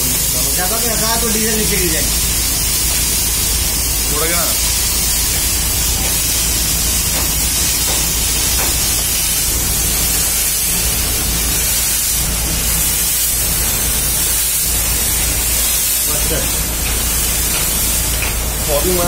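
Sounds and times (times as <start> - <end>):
fogging machine hissing: 0.0 - 19.0.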